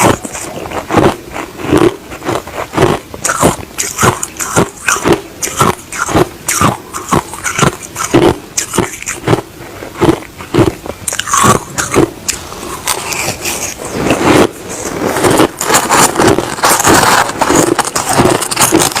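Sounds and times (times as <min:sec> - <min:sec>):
crushed ice being chewed: 0:00.0 - 0:19.0.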